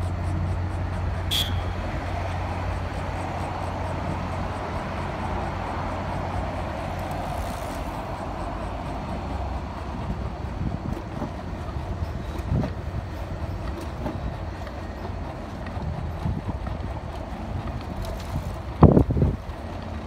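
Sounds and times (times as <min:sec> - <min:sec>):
outdoor rumble and hiss: 0:00.0 - 0:20.0.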